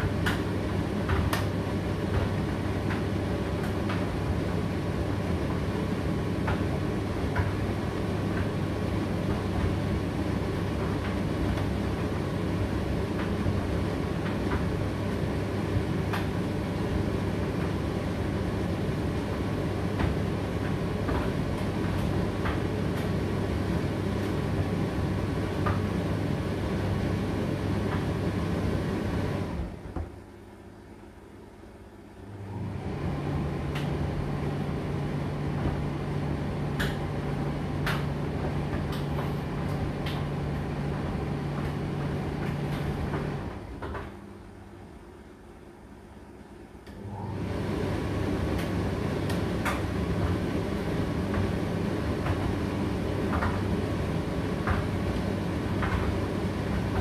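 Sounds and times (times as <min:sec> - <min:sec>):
tumble dryer humming: 0:00.0 - 0:30.7, 0:32.0 - 0:46.2, 0:46.8 - 0:57.0.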